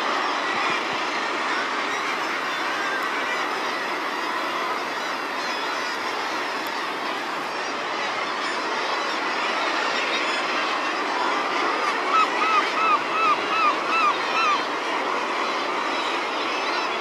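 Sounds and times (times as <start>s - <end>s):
seabird colony din: 0.0s - 17.0s.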